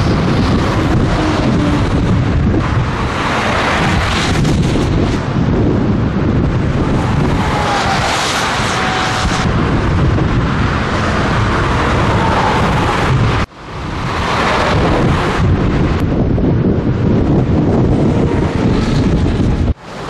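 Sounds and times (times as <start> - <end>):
truck engine and road noise: 0.0 - 20.0
wind buffeting microphone: 0.0 - 20.0.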